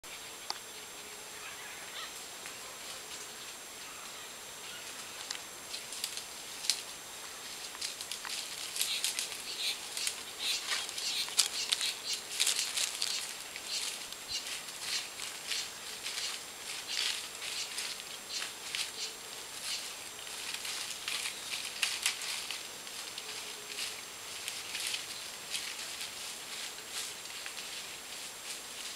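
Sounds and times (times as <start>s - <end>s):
dry leaves crackling and rustling: 1.4s - 28.9s.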